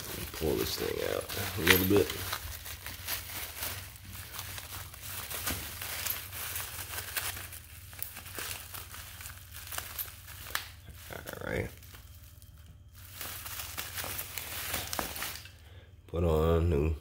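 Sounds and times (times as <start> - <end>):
bubble wrap crinkling: 0.0 - 15.6.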